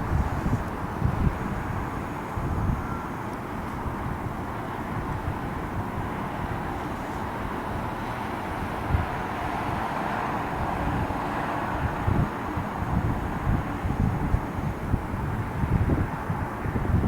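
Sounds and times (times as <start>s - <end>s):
distant vehicle drone: 0.0s - 16.8s
wind buffeting microphone: 0.0s - 17.0s.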